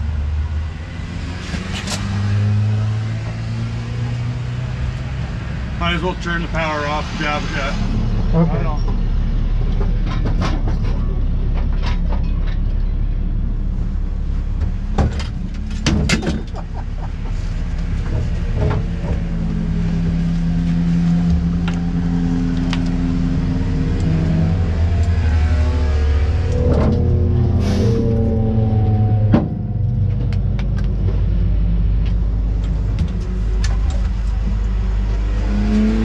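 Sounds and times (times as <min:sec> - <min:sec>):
diesel engine rumbling: 0:00.0 - 0:36.0.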